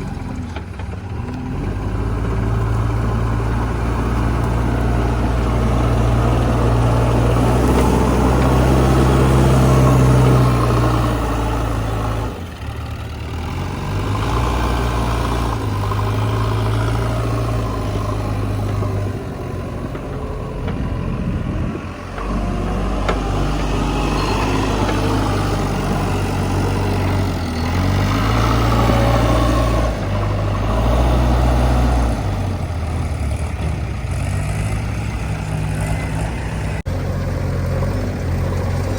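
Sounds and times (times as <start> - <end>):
backhoe diesel engine: 0.0 - 38.9.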